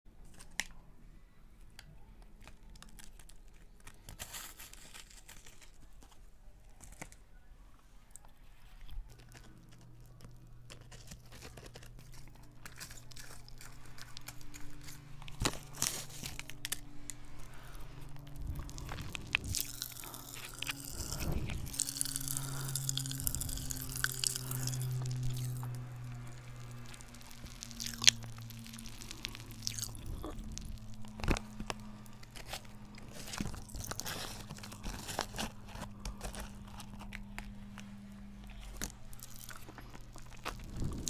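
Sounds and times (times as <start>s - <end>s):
plastic wrapper crinkling: 1.8s - 7.3s, 8.1s - 41.0s.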